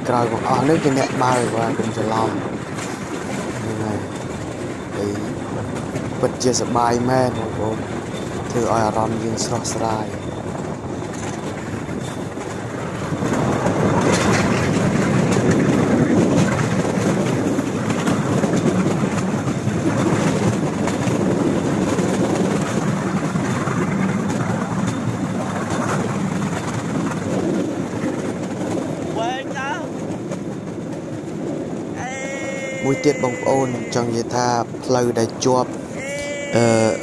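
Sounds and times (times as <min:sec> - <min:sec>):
rail vehicle running noise: 0:00.0 - 0:37.0
wheels clacking on rails: 0:00.0 - 0:37.0.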